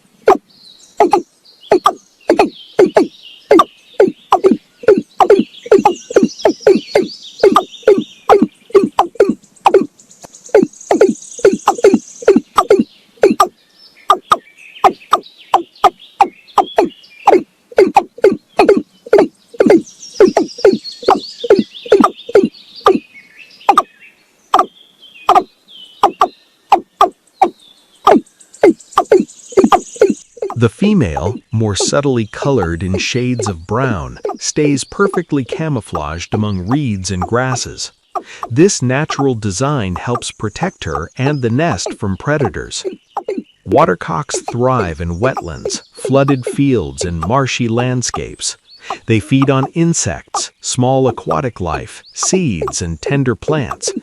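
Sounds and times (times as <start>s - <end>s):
faint high chirping: 0.0s - 54.0s
deep hollow bird call: 0.2s - 54.0s
higher bird twittering: 0.2s - 54.0s.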